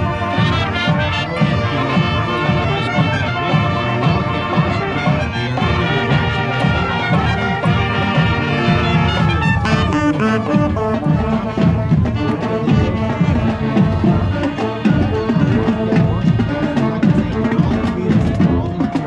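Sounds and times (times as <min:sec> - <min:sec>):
brass section playing tune: 0:00.0 - 0:19.0
steady drum beat: 0:00.0 - 0:19.0.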